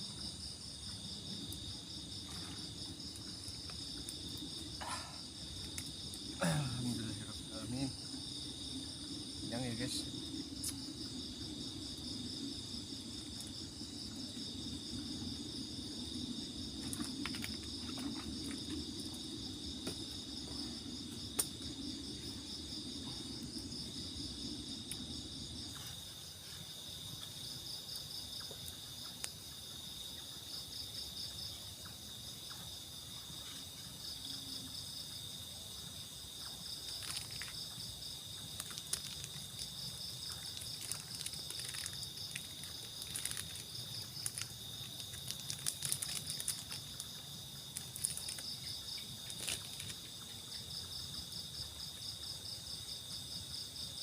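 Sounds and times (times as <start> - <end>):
crickets and insects chirping: 0.0 - 54.0.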